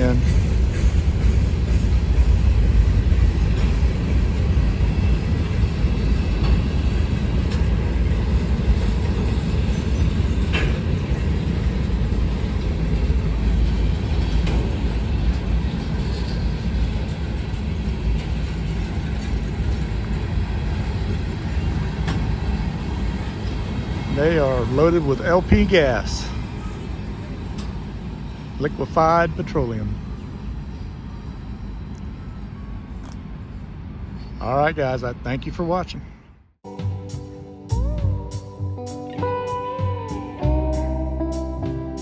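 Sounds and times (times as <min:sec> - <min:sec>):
train wheels rumbling: 0:00.0 - 0:36.0.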